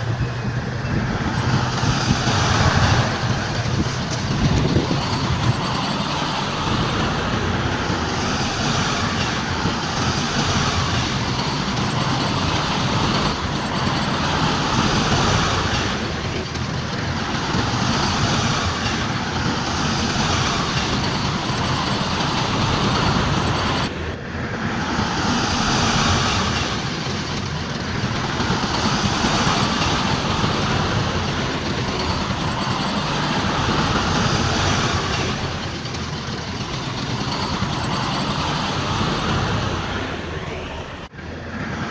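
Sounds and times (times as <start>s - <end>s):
diesel machinery engines under load: 0.0s - 41.9s.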